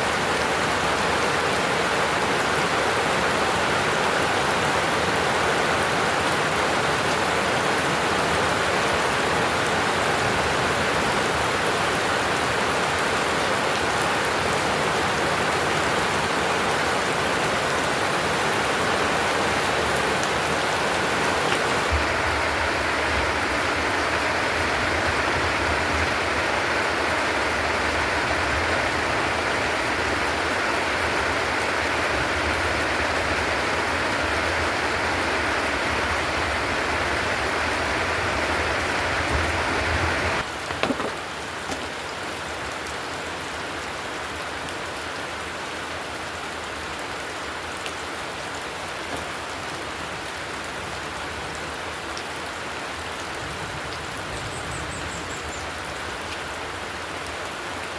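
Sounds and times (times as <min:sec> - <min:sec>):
heavy rain roaring: 0:00.0 - 0:57.4.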